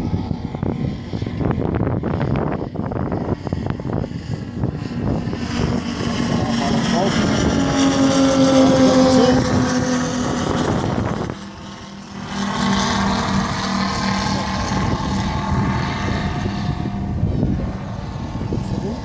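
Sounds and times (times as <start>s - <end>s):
model plane engines running: 0.0s - 19.0s.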